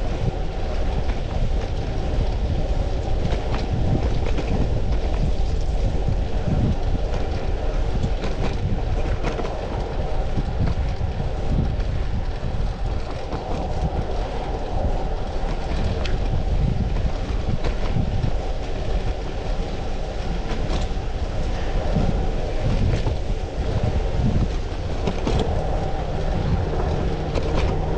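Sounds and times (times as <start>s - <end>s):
bicycle tyre noise: 0.0s - 27.9s
wind rumble on microphone: 0.0s - 27.9s.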